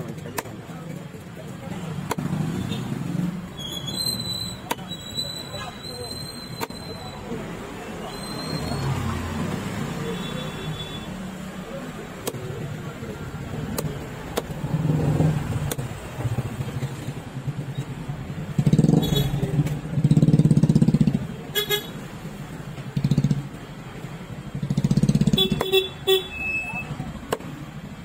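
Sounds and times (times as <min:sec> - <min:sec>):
motorcycle and car engines passing: 0:00.0 - 0:04.8, 0:07.0 - 0:26.0.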